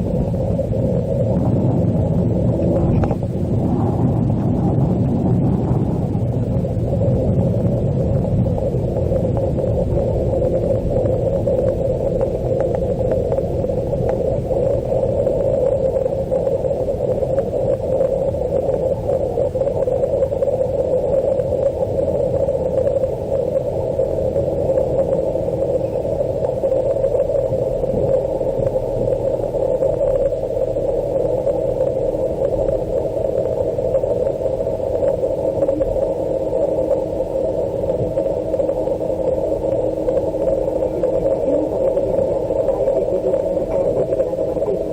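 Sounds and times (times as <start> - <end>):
low rumble: 0.0 - 44.9
muffled airliner cabin noise: 0.0 - 44.9.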